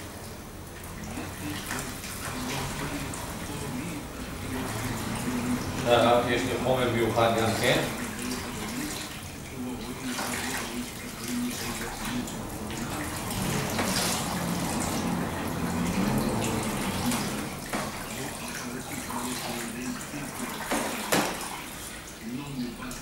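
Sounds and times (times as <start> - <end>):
shower sprayer spraying water on hair: 0.0 - 23.0.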